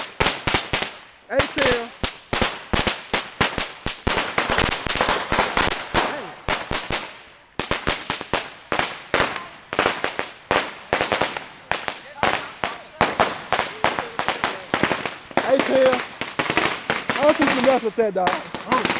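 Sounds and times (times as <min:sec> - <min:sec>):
firecrackers crackling bangs: 0:00.0 - 0:18.9.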